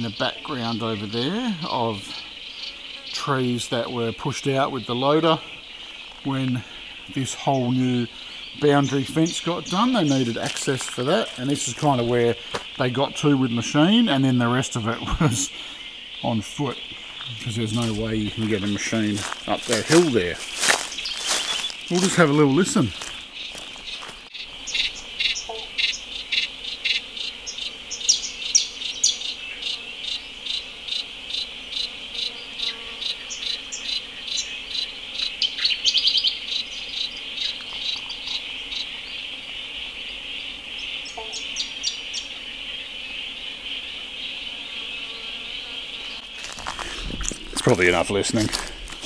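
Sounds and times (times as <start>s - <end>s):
fast insect trill: 0.0s - 49.0s
insect chorus: 0.0s - 49.0s.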